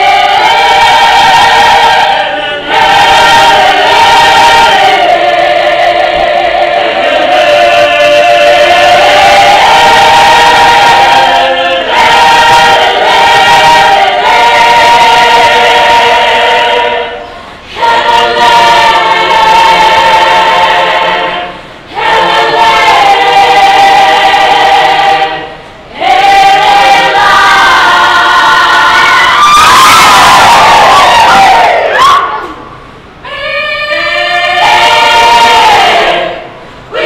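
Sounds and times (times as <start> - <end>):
choir singing unaccompanied: 0.0 - 32.2, 33.2 - 37.0.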